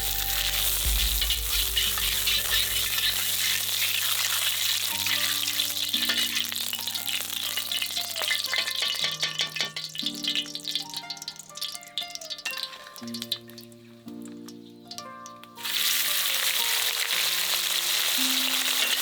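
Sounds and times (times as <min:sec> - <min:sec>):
food sizzling and crackling: 0:00.0 - 0:19.0.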